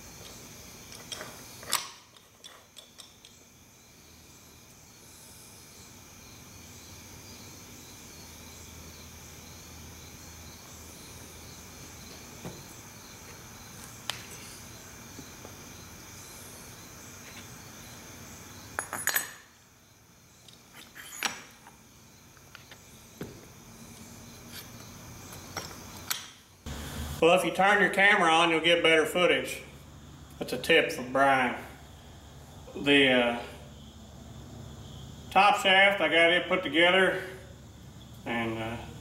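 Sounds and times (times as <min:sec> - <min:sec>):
background hum: 0:00.0 - 0:39.0.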